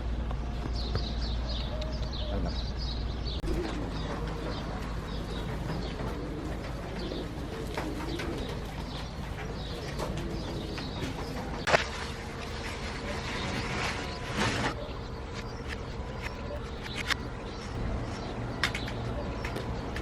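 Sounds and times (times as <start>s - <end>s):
small birds chirping: 0.0s - 20.0s
steady low hum: 0.0s - 20.0s
doves cooing: 0.1s - 20.0s.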